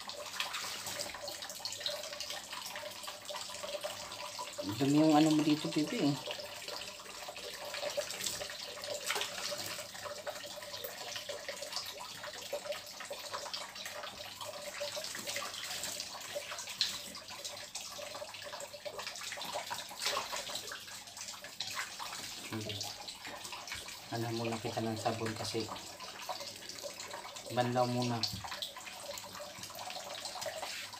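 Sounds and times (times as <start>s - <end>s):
water splashing and dripping: 0.0s - 30.9s.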